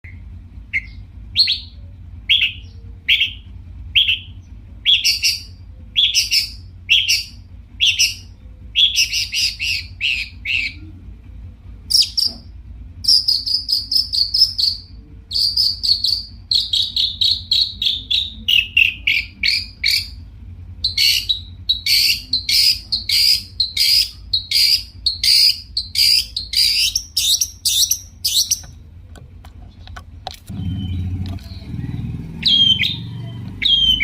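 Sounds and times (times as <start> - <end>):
bird singing harsh notes: 0.0 - 10.8, 11.9 - 28.7, 30.5 - 34.0
low steady hum: 0.0 - 34.0.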